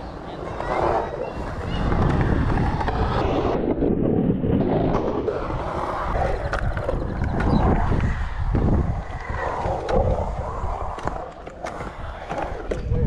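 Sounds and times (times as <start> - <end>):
skateboard wheels rolling on concrete: 0.0 - 13.0
wind on microphone: 0.5 - 13.0.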